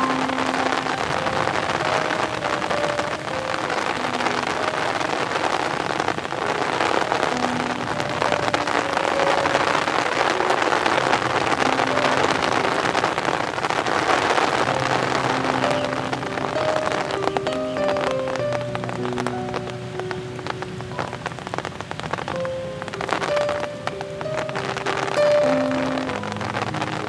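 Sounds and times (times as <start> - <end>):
heavy rain on pond water: 0.0 - 27.0.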